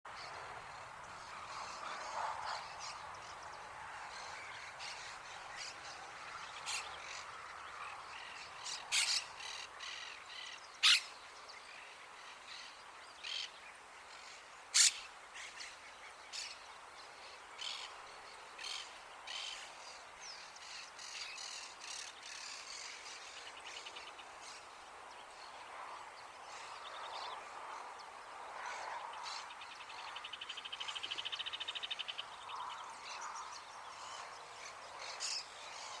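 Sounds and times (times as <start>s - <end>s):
faint background noise: 0.1s - 36.0s.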